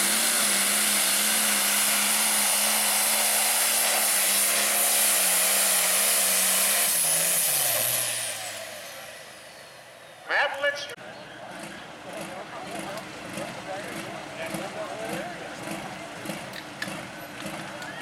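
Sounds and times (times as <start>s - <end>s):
diesel tractor engine under load: 0.0s - 18.0s.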